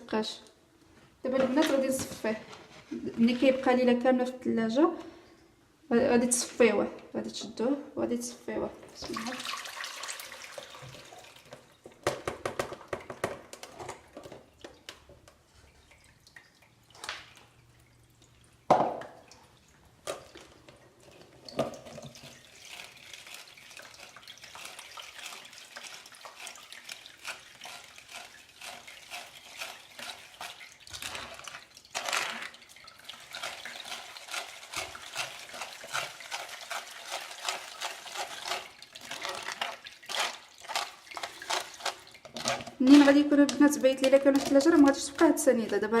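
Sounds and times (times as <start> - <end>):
juice trickling through strainer: 9.0 - 46.0.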